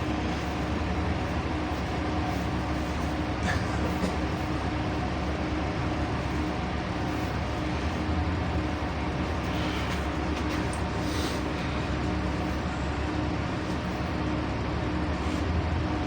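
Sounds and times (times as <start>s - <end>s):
bus engine and road hum: 0.0s - 16.0s.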